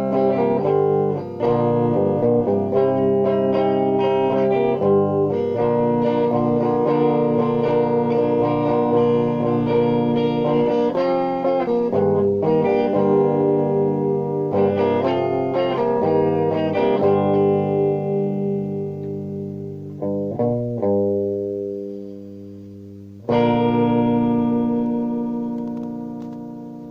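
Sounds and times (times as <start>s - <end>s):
guitar chords with effects: 0.0s - 26.9s.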